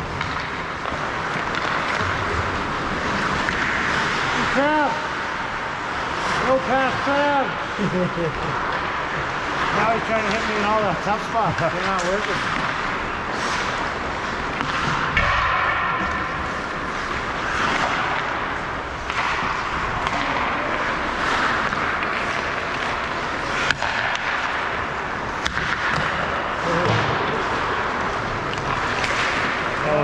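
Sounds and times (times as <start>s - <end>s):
skate blades scraping ice: 0.0s - 5.2s, 8.5s - 15.2s, 16.1s - 30.0s.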